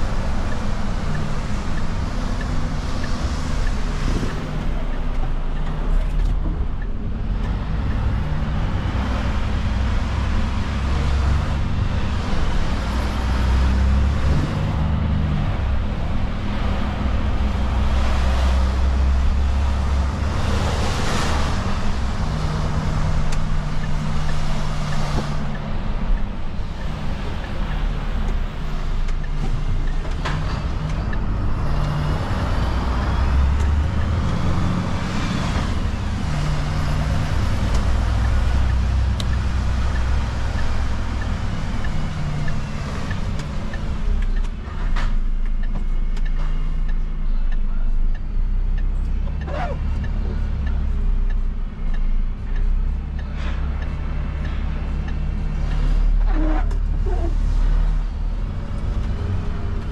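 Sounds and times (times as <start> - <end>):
diesel truck engine running: 0.0 - 59.9
road noise: 0.0 - 59.9.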